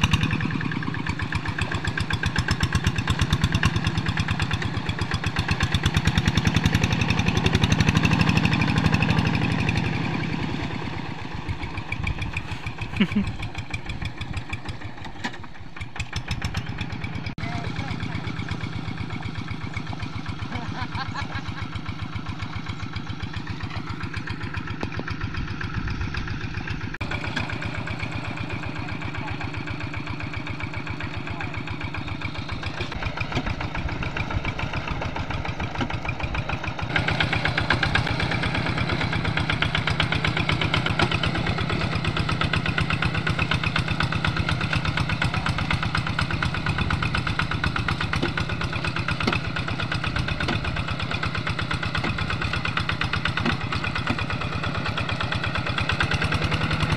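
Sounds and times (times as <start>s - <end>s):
diesel engine chugging: 0.0s - 56.9s.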